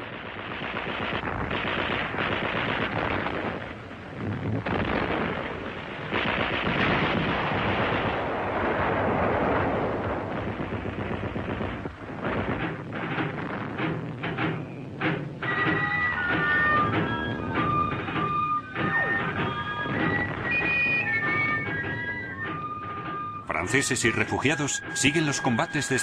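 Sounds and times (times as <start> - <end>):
dense gunfire: 0.0 - 25.5
explosions: 0.0 - 26.0.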